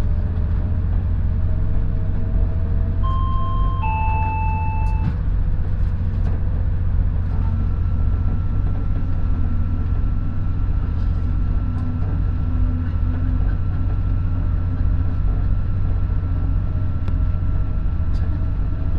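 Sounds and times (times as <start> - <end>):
train rumble inside carriage: 0.0 - 18.9.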